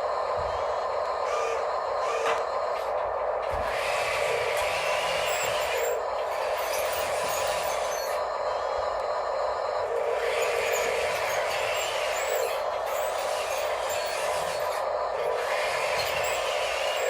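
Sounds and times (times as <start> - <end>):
model machines mechanical whir: 0.0 - 17.0.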